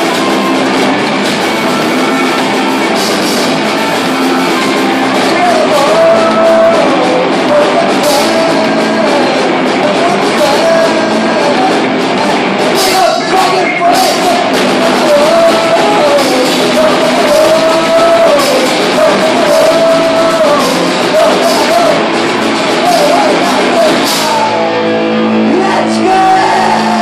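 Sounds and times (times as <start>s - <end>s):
person singing: 0.0s - 27.0s
punk rock band playing: 0.0s - 27.0s.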